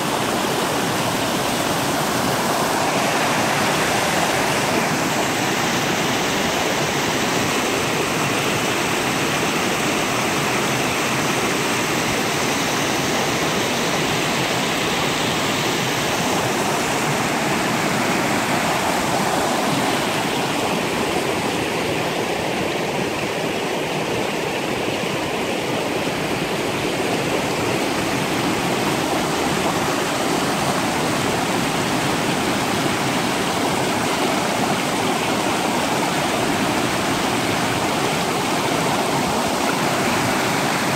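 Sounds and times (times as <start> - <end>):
river rapids rushing over rocks: 0.0 - 40.9.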